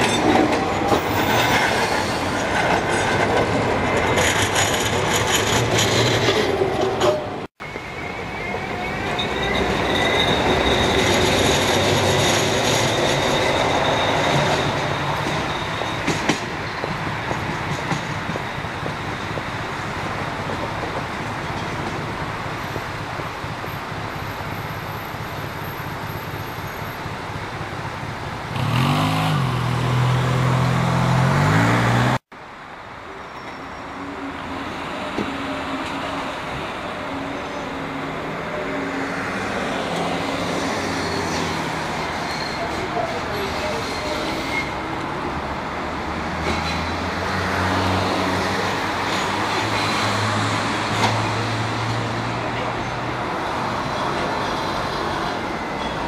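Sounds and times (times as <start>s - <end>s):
tram wheels squealing on rails: 0.0s - 27.2s, 32.9s - 56.0s
street traffic: 0.0s - 56.0s
tram rumble: 0.0s - 56.0s.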